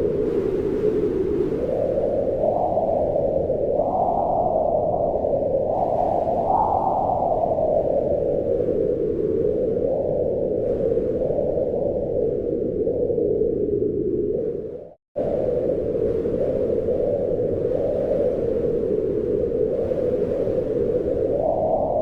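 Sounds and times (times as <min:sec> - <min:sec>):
wind moaning: 0:00.0 - 0:22.0.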